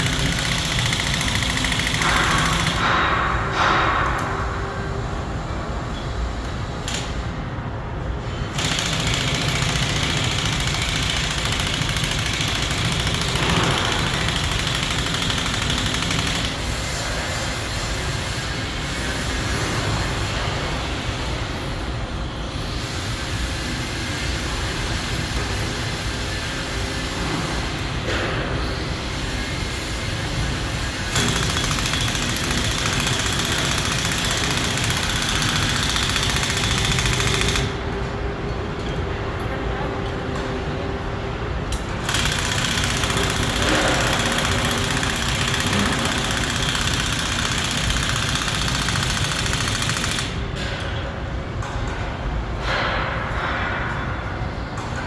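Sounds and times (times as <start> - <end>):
loud mechanical noise: 0.0 - 55.0.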